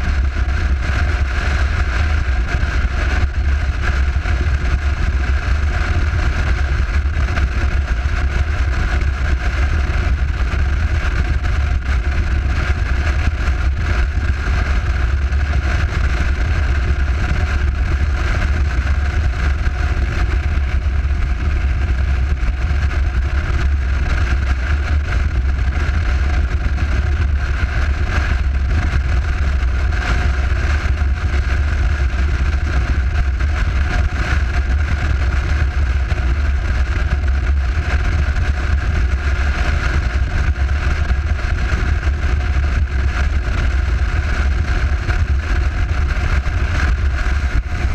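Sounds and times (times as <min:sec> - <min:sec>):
motorcycle cruising drone: 0:00.0 - 0:47.9.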